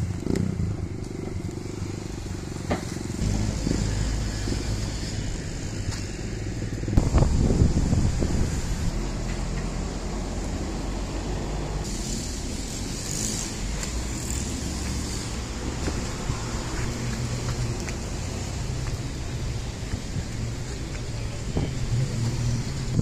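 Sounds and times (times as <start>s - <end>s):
car engines at low speed: 0.0s - 23.0s.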